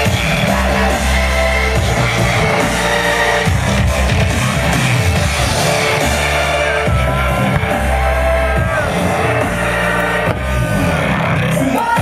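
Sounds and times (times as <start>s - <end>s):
music with heavy bass line: 0.0s - 12.0s.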